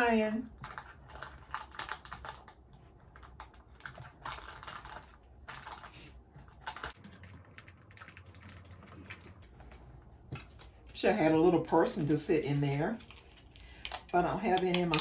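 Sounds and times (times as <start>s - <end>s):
plastic snack packets rustling: 0.0s - 15.0s.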